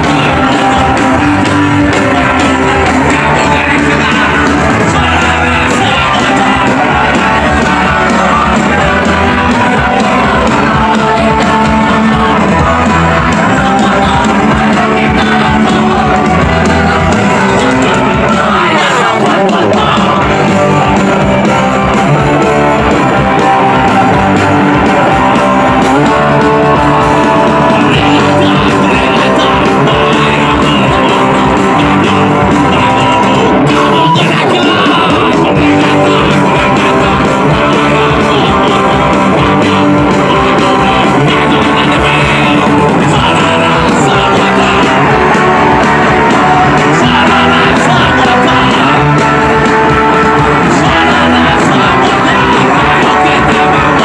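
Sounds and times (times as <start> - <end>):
live punk rock band: 0.0 - 54.0.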